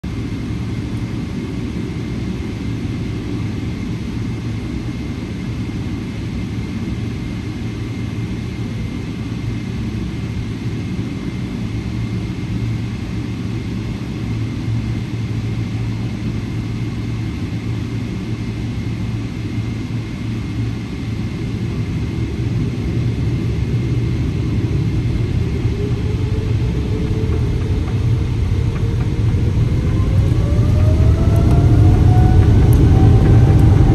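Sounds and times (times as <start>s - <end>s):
jet engine rising whine: 0.0s - 33.9s
jet engines low rumble: 0.0s - 33.9s.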